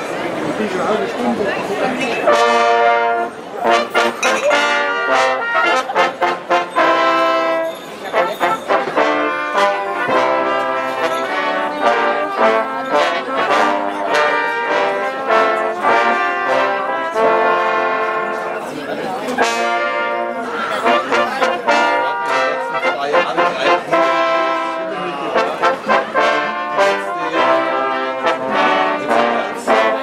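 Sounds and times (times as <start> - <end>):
brass band playing: 1.9 - 30.0.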